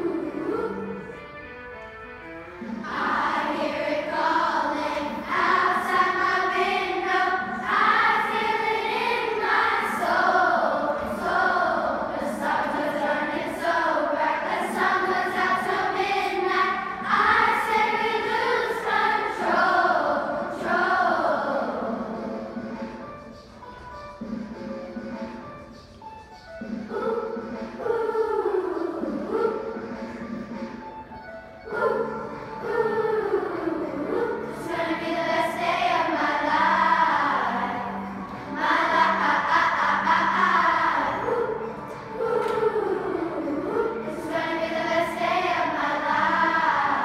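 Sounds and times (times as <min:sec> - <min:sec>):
children's choir singing: 0:00.0 - 0:01.9, 0:02.6 - 0:47.0.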